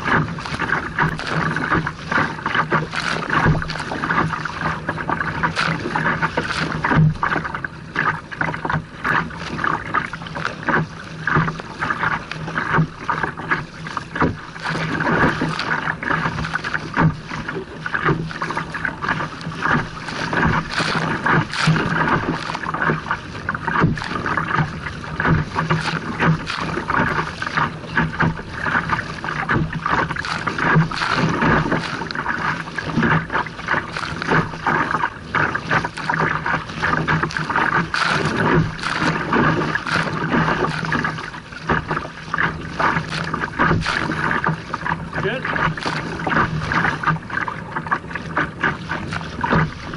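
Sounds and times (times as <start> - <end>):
waves splashing against kayak: 0.0 - 49.9.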